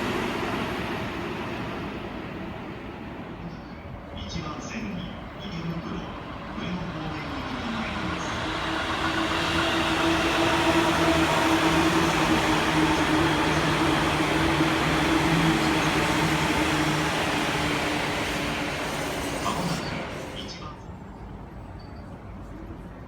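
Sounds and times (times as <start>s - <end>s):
passenger train rumbling: 0.0s - 23.0s.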